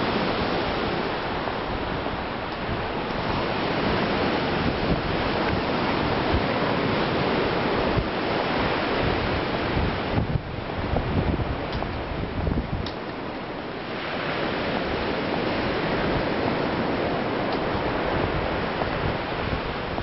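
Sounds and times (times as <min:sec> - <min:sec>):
sea surf: 0:00.0 - 0:20.0
wind buffeting microphone: 0:00.0 - 0:20.0.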